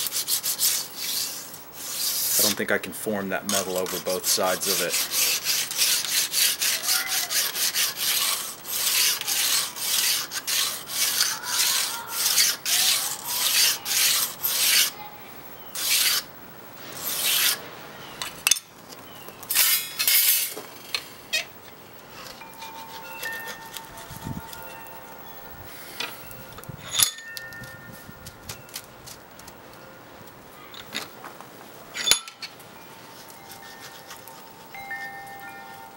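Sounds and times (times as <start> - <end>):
steel rubbing on steel: 0.0 - 15.0, 15.7 - 17.6, 19.5 - 21.5, 22.1 - 28.8, 32.0 - 35.9.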